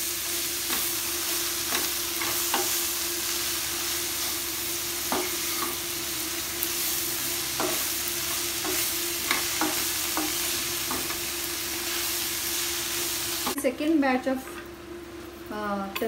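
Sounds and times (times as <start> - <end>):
spinach sizzling in a pan: 0.0 - 16.0.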